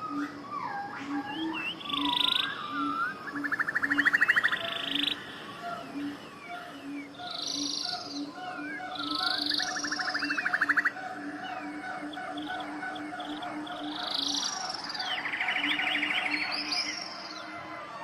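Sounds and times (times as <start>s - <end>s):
low repeating bird call: 0.0s - 17.4s
songbirds singing: 0.0s - 18.0s.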